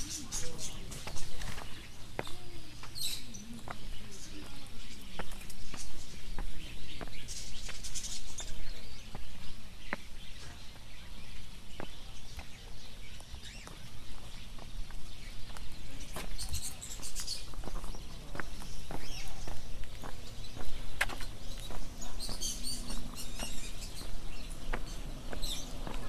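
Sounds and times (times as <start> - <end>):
birds twittering: 0.0 - 26.0.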